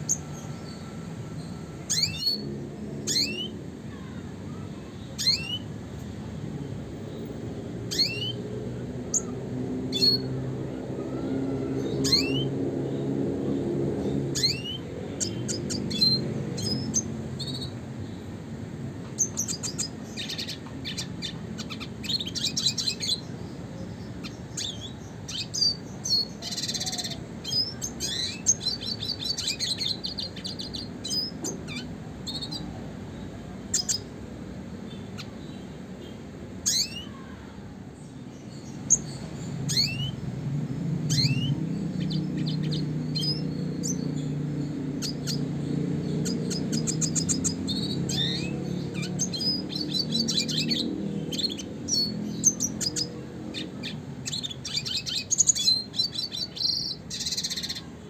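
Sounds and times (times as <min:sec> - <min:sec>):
bird singing with trills: 0:00.0 - 0:05.8, 0:06.6 - 0:18.3, 0:19.0 - 0:34.2, 0:34.8 - 0:58.0.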